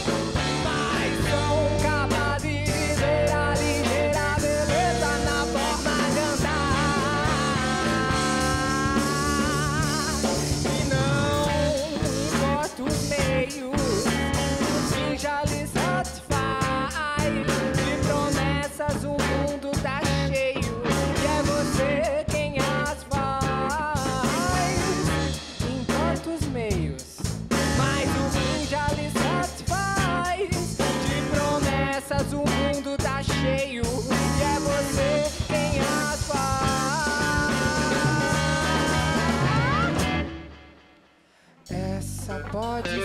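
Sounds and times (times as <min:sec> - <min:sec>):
electric guitar lead: 0:00.0 - 0:26.2, 0:27.5 - 0:43.0
bass guitar: 0:00.0 - 0:43.0
drum kit: 0:00.0 - 0:43.0.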